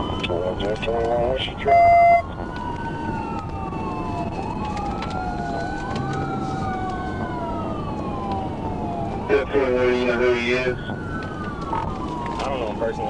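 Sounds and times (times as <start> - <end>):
police siren wailing: 0.0 - 13.0
road and engine noise: 0.0 - 13.0.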